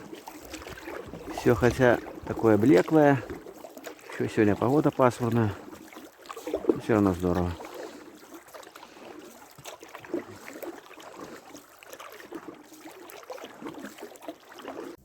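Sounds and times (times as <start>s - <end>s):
boat and oars knocking: 0.0s - 15.0s
water splashing: 0.0s - 15.0s.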